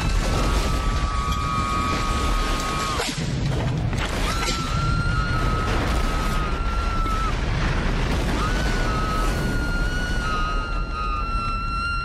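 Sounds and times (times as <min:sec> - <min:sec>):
shrill high scream: 0:00.0 - 0:03.1, 0:04.2 - 0:07.4, 0:08.4 - 0:12.0.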